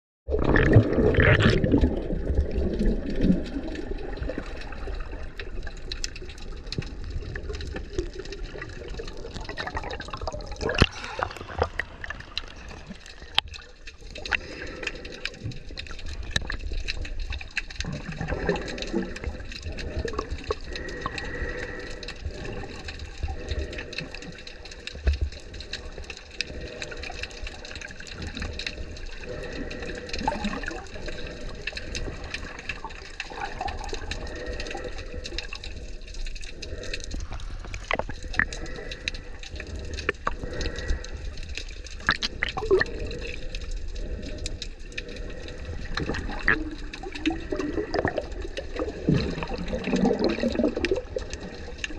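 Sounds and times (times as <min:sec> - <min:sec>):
water sloshing and gurgling: 0:00.3 - 0:51.9.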